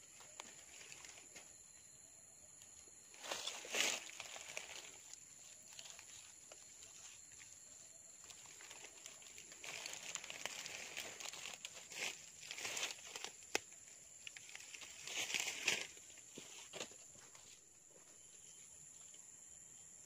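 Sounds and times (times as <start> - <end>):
rustling of dry leaves: 0.0 - 1.5, 2.9 - 17.7
insect drone: 0.0 - 20.0.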